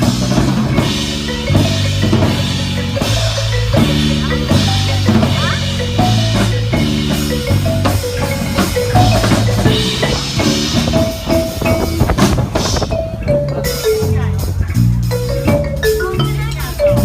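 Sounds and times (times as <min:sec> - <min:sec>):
bass line: 0:00.0 - 0:17.0
drum kit beat: 0:00.0 - 0:17.0
marimba pop melody: 0:00.0 - 0:17.0.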